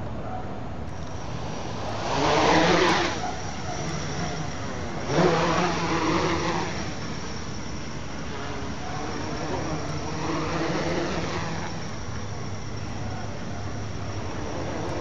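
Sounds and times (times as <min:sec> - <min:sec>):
quadcopter propellers buzzing: 0:00.0 - 0:15.0.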